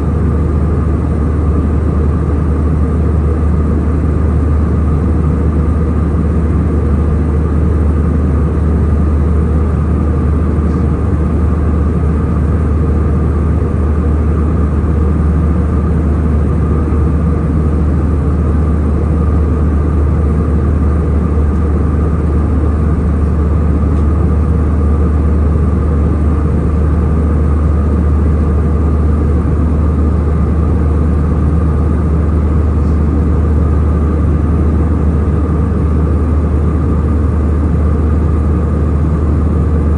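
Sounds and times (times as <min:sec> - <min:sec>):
airliner cabin engine drone: 0:00.0 - 0:39.9
faint steady hum: 0:00.0 - 0:39.9.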